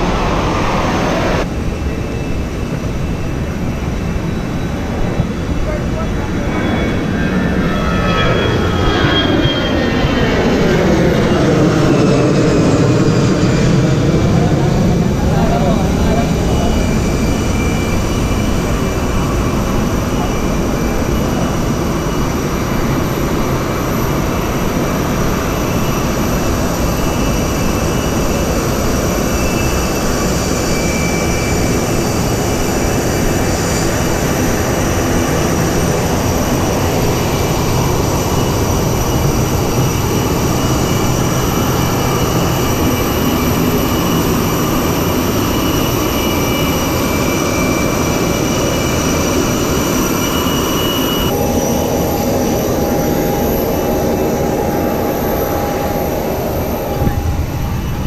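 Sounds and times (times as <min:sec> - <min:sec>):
jet turbine rushing and whining: 0:00.0 - 0:58.0.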